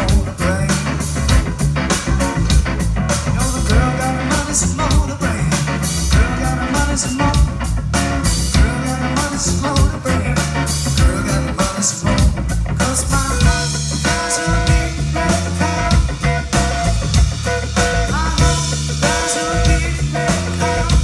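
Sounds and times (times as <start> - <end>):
person singing: 0.0 - 1.1, 3.3 - 7.6, 8.4 - 17.2, 17.8 - 21.0
drum kit beat: 0.0 - 21.0
electric bass: 0.0 - 21.0
electric guitar: 0.0 - 21.0.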